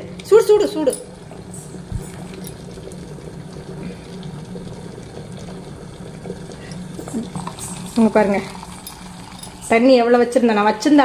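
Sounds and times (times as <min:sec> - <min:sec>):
water boiling in electric kettle: 0:00.0 - 0:11.0.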